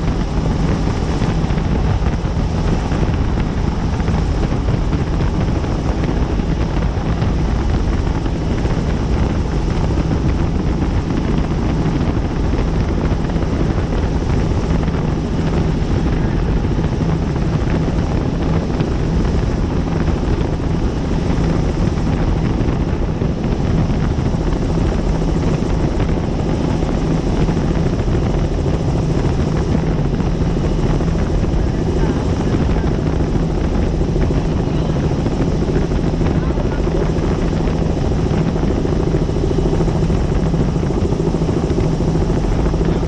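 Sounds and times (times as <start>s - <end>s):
helicopter rotor and engine: 0.0s - 43.0s.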